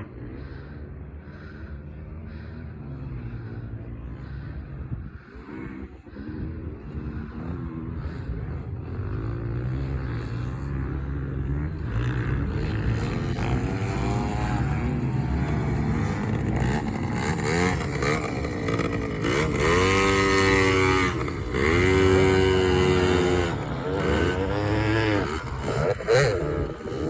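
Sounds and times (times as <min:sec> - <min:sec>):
minibike engine revving: 0:00.0 - 0:27.0.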